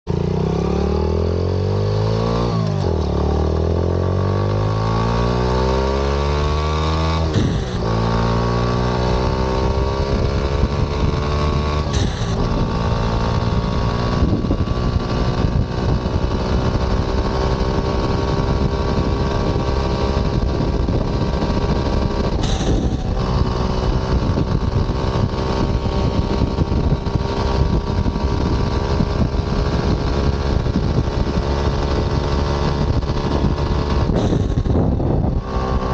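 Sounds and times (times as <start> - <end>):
minibike engine revving: 0.1 - 35.9.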